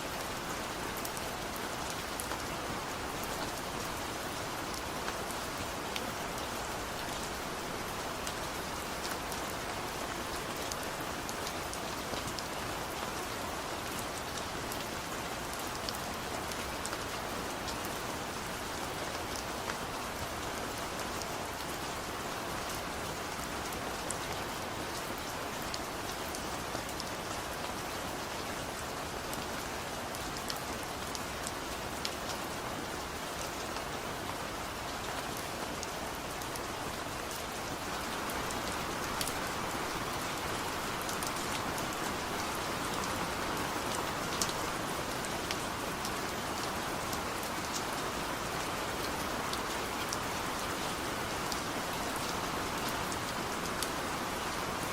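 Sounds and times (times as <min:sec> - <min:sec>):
rain drops pattering: 0:00.0 - 0:54.9.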